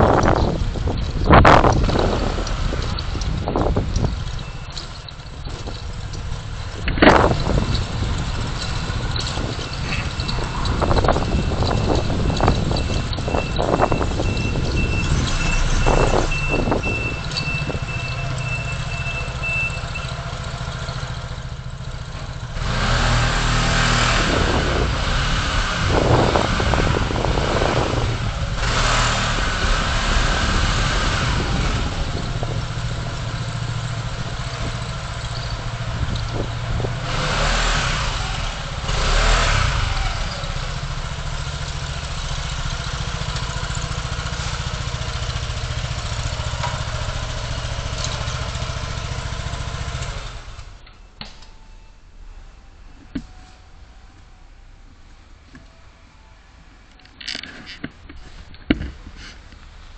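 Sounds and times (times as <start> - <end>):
city traffic rumble: 0.0 - 59.9
vehicles passing: 0.0 - 59.9.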